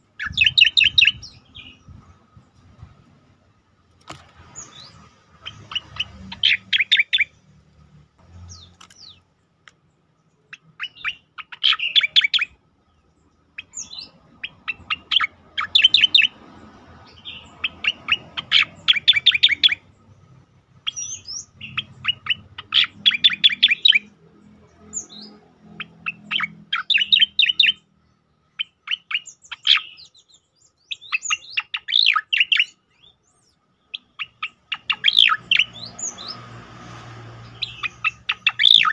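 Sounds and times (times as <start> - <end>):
songbird sharp chirps: 0.1 - 2.7, 4.1 - 38.9.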